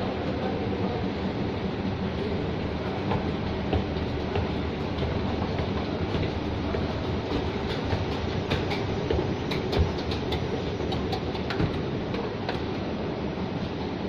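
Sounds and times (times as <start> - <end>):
escalator rumbling: 0.0 - 14.0.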